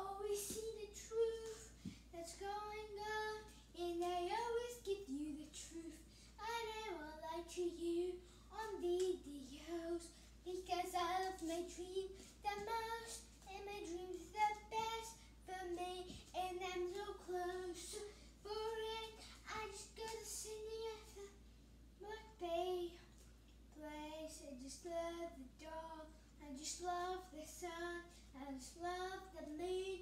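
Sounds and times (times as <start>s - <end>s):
girl singing unaccompanied: 0.0s - 30.0s.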